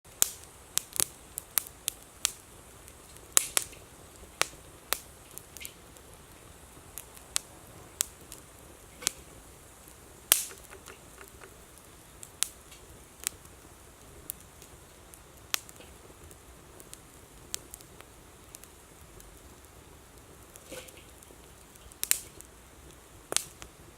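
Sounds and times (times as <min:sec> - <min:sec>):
bonfire crackling and popping: 0:00.0 - 0:23.9
faint steady hiss: 0:00.0 - 0:23.9.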